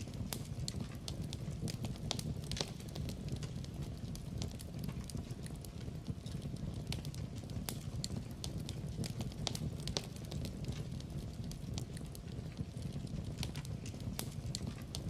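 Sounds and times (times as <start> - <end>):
low rumble of flames: 0.0 - 15.0
wood fire pops and snaps: 0.0 - 15.0.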